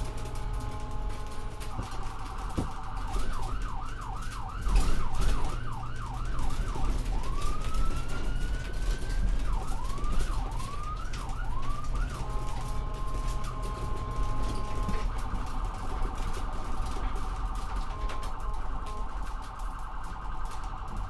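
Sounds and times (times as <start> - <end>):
ambulance siren: 0.0 - 21.0.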